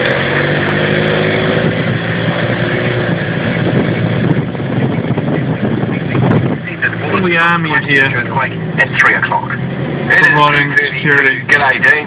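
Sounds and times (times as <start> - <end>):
car engine humming: 0.0 - 12.0
road noise: 0.0 - 12.0.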